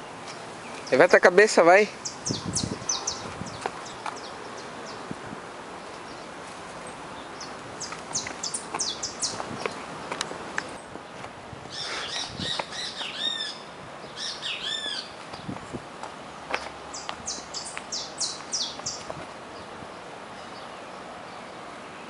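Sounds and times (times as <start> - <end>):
birds chirping: 0.0 - 15.9, 16.5 - 22.0.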